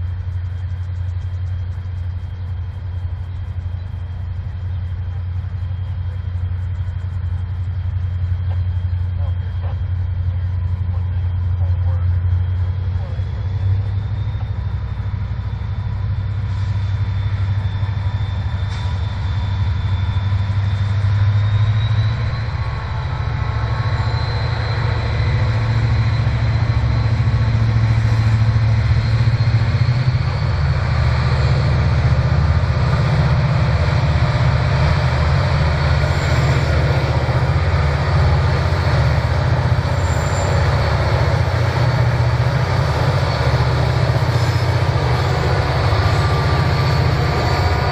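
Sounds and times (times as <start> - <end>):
diesel locomotive engines droning: 0.0 - 47.9
high whine: 0.0 - 47.9.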